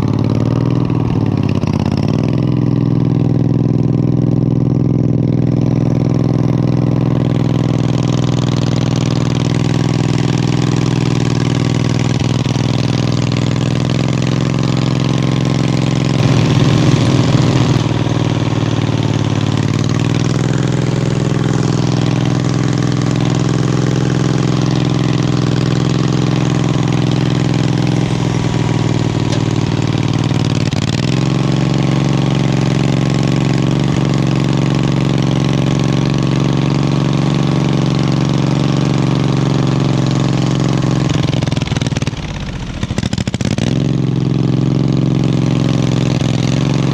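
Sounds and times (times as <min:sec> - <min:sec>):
lawn tractor engine running: 0:00.0 - 0:46.9.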